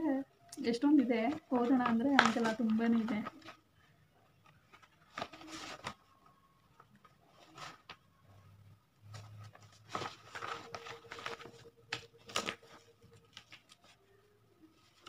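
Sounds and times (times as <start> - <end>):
paper rustling and crinkling: 1.2 - 8.4, 9.0 - 15.0.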